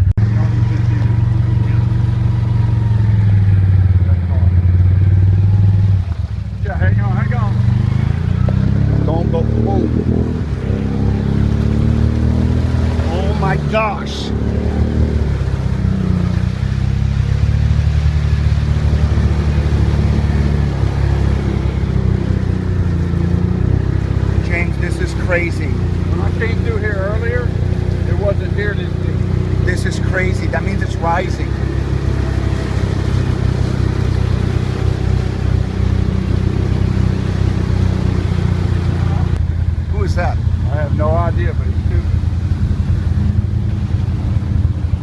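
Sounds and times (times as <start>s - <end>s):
vehicle engine humming: 0.0s - 45.0s.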